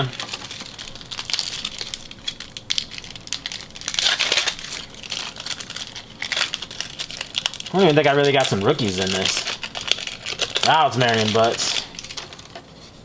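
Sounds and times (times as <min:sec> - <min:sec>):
wrapper crinkling and crackling: 0:00.0 - 0:12.9.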